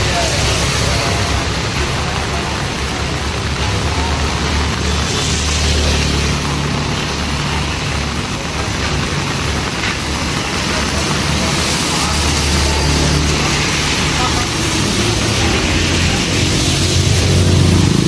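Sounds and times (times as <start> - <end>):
cars and motorbikes passing: 0.0 - 18.0
heavy rain on wet street: 0.0 - 18.0
motorbike passing close: 0.0 - 18.0.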